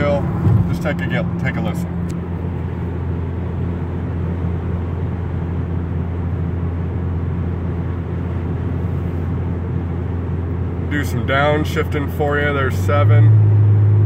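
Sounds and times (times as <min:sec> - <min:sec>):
car exhaust hum: 0:00.0 - 0:14.0
road noise: 0:00.0 - 0:14.0.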